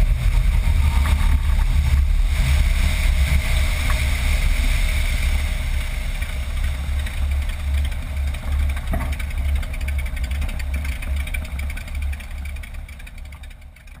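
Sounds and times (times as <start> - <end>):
propeller engine idling: 0.0 - 14.0.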